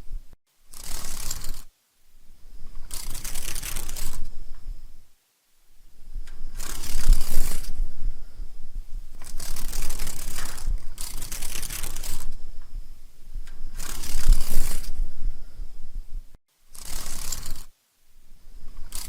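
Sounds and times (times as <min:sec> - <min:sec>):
dragonfly wings whirring: 0:00.7 - 0:05.1, 0:05.7 - 0:15.9, 0:16.7 - 0:19.0.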